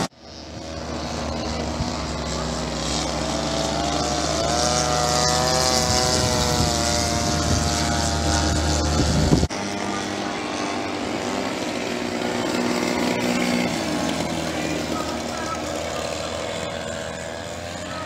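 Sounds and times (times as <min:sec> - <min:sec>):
model plane engines droning: 0:00.0 - 0:18.0.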